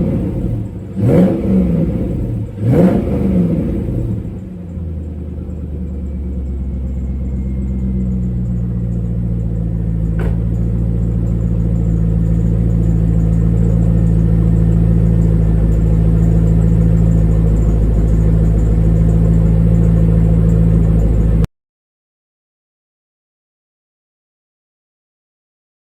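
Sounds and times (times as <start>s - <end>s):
car engine idling: 0.0s - 21.5s.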